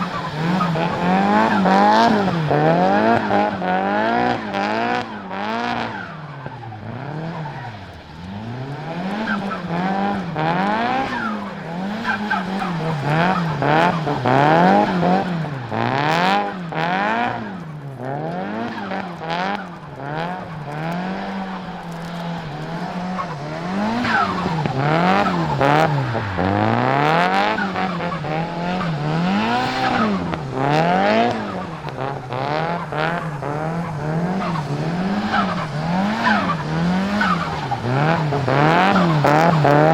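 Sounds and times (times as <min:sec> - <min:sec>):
turbocharged car engine revving: 0:00.0 - 0:39.9.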